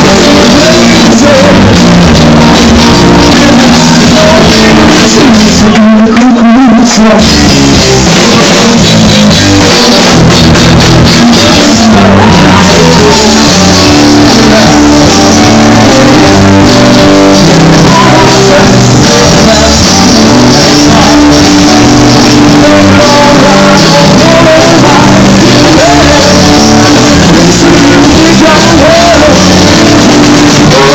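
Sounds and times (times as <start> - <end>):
person singing: 0.0 - 30.9
rock band playing: 0.0 - 30.9.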